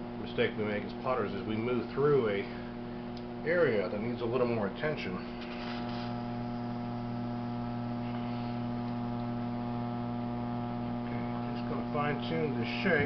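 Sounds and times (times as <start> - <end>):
potter's wheel humming: 0.0 - 13.0.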